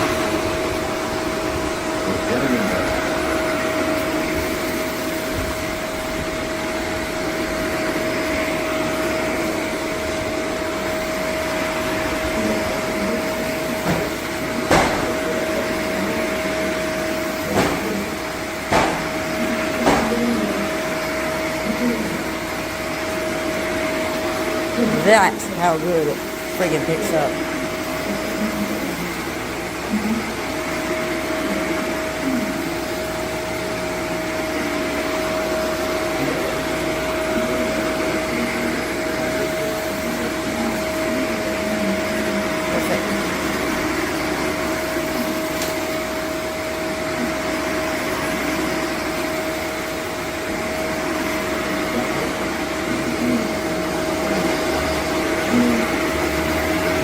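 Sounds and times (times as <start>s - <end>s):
upright vacuum running: 0.0s - 57.0s.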